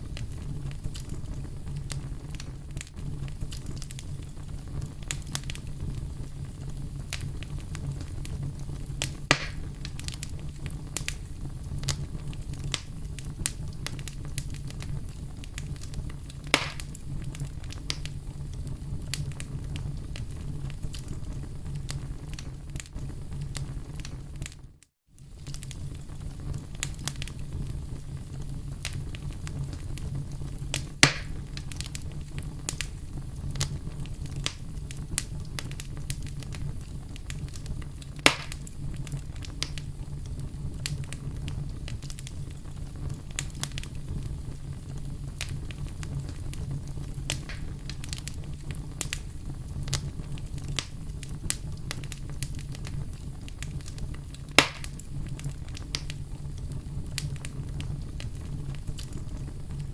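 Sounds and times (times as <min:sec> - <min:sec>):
loud fire pops: 0:00.0 - 0:59.9
wood fire crackling: 0:00.0 - 0:59.9.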